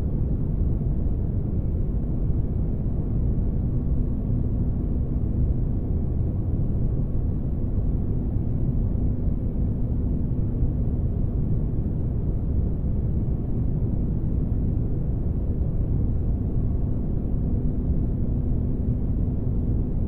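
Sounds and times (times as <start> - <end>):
faint constant hum: 0.0 - 20.0.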